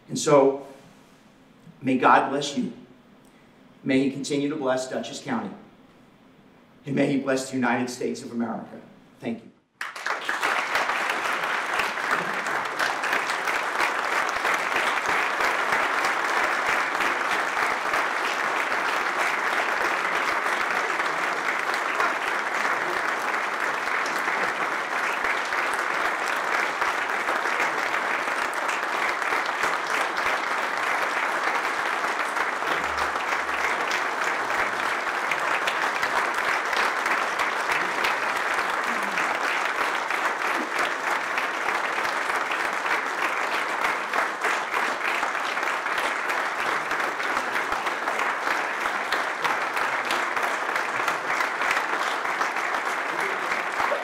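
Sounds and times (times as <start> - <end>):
audience applauding: 9.8 - 54.0.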